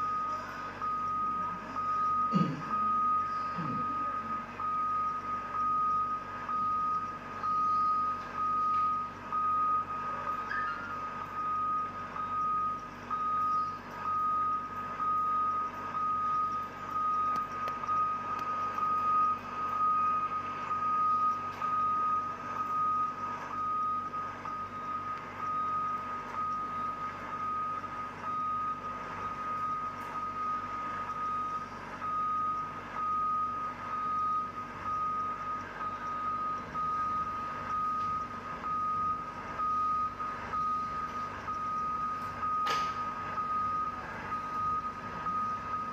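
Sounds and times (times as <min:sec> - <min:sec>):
reversing alarm beeping: 0:00.0 - 0:45.9.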